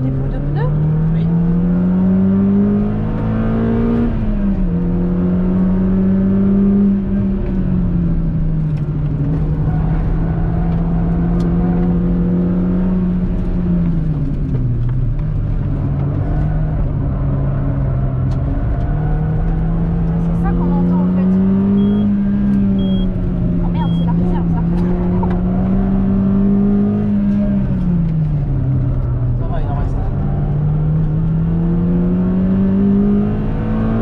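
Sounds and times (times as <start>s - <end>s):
car engine running hard: 0.0s - 34.0s.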